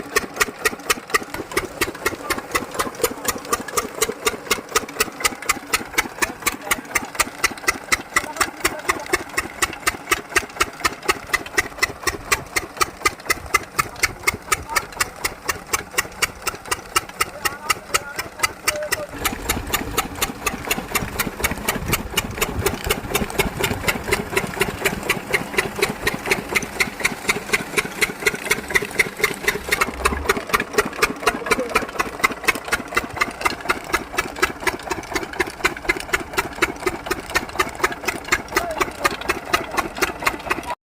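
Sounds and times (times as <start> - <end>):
diesel engine running: 0.0 - 40.8.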